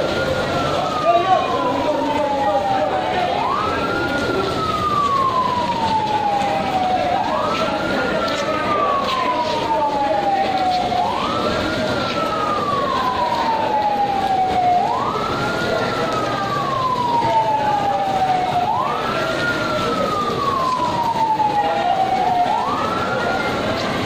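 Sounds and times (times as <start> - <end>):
fire truck siren wailing: 0.0 - 24.0.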